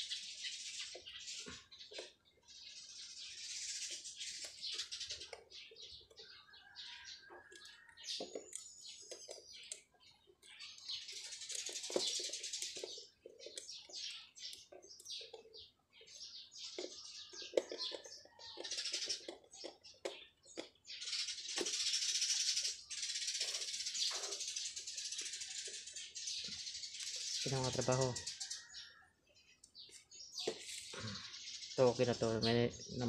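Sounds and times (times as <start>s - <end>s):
bird chirps: 0.0s - 33.0s.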